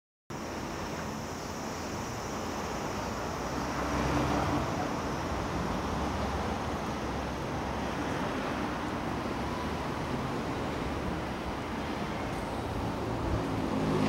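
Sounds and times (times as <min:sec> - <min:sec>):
distant traffic: 0:00.3 - 0:14.0.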